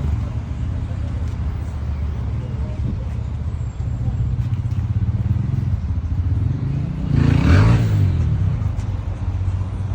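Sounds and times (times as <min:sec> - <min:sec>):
motorcycle engine rumbling: 0:00.0 - 0:09.5.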